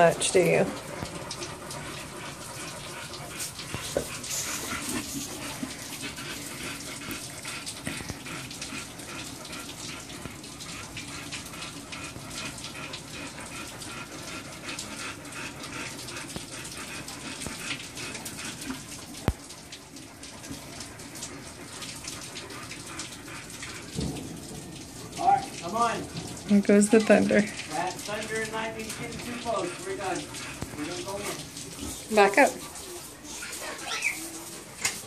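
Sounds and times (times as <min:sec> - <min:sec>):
rain shower falling: 0:00.0 - 0:35.0.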